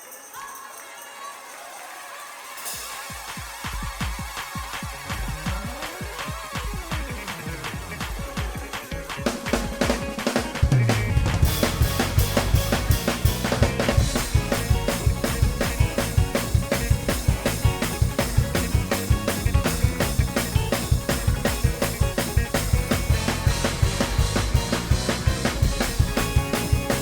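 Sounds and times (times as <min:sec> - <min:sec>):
fast drum kit groove: 0:02.6 - 0:27.0
keyboard bass and chords: 0:05.1 - 0:27.0.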